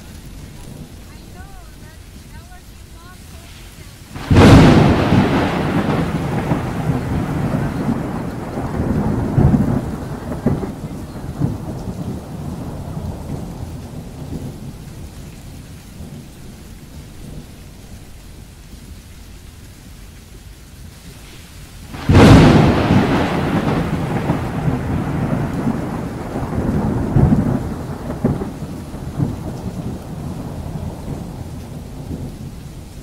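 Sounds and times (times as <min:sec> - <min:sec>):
rumbling thunder: 0:00.0 - 0:02.2, 0:04.1 - 0:18.4, 0:21.2 - 0:33.0
heavy rain on car: 0:00.0 - 0:33.0.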